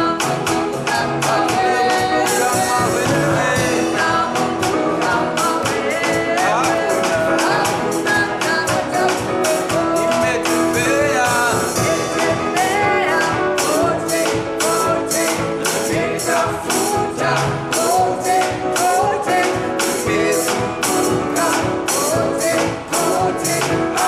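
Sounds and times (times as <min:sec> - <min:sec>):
people singing gospel song: 0:00.0 - 0:24.0
steady percussion beat: 0:00.0 - 0:24.0.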